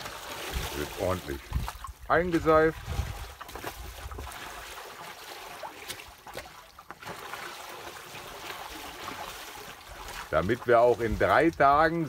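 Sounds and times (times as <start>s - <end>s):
seawater splashing and trickling: 0.0s - 12.0s
sharp small splashes: 0.0s - 12.0s.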